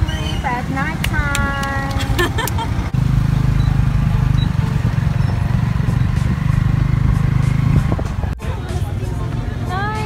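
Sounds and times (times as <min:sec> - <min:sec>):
road rumble: 0:00.0 - 0:10.0
vehicle engine humming: 0:00.0 - 0:10.0.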